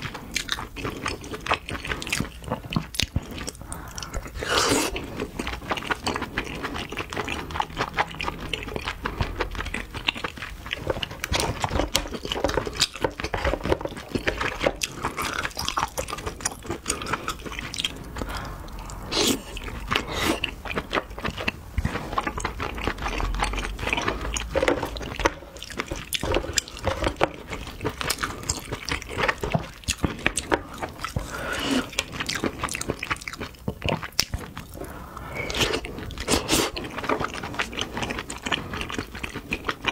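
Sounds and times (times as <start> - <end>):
person chewing with mouth clicks: 0.0 - 39.9.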